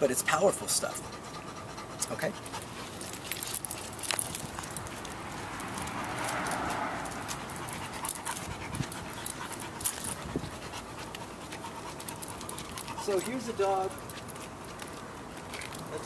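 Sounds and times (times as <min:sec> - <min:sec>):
dog panting: 0:00.1 - 0:16.0.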